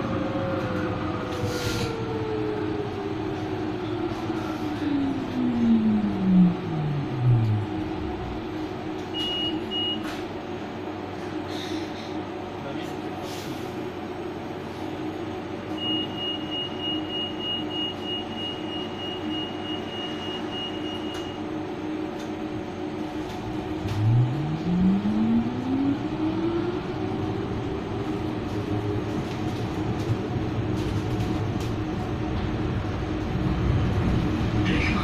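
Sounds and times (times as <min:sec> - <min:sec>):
tram motor whine rising: 0:00.0 - 0:11.5, 0:12.2 - 0:35.0
tram rumbling on rails: 0:00.0 - 0:35.0.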